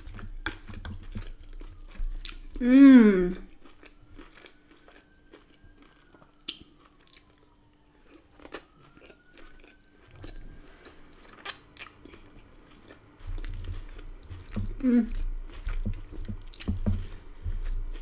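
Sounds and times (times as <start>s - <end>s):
close chewing of food: 0.0s - 18.0s.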